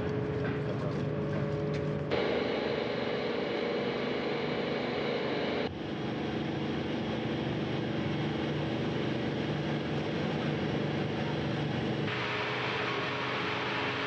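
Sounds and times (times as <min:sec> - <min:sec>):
mechanical hum of machinery: 0:00.0 - 0:14.0.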